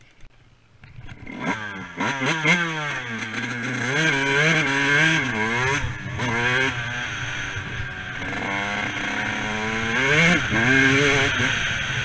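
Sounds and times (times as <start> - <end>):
dirt bike engine revving: 1.0 - 12.0.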